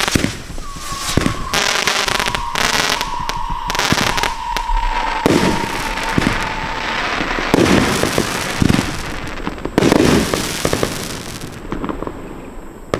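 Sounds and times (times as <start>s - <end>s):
fireworks bursts: 0.0s - 12.4s
fireworks crackling: 0.0s - 12.9s.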